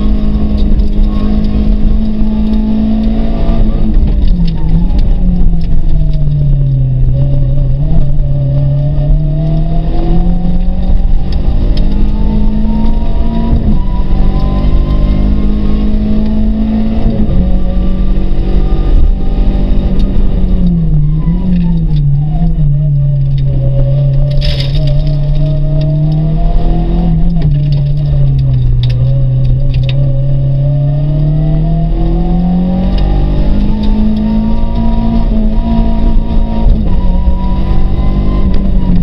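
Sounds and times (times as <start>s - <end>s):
car engine revving from cabin: 0.0s - 39.0s.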